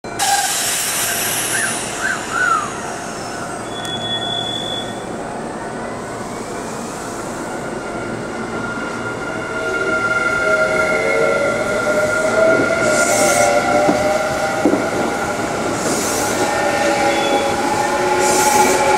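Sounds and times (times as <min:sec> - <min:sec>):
electric train rolling: 0:00.1 - 0:18.9.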